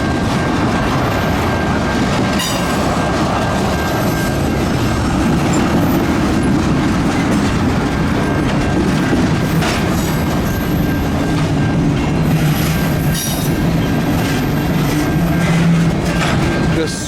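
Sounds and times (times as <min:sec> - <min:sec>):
train wheels rumbling on rails: 0:00.0 - 0:17.0
wheels clacking over rail joints: 0:00.0 - 0:17.0
high wheel squeal: 0:01.0 - 0:06.4, 0:08.1 - 0:16.7.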